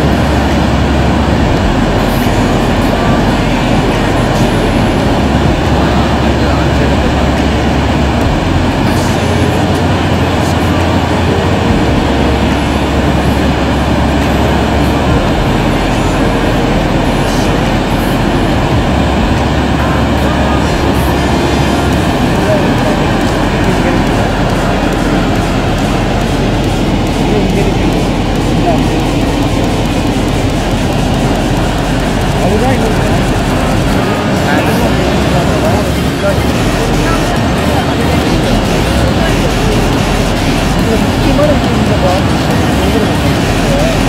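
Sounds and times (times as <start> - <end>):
deep low rumble: 0.0 - 44.0.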